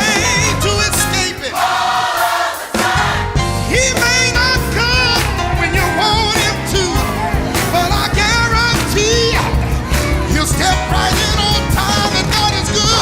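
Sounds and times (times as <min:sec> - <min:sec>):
band with steady bass: 0:00.0 - 0:01.4, 0:02.8 - 0:13.0
gospel singing voices with vibrato: 0:00.0 - 0:13.0.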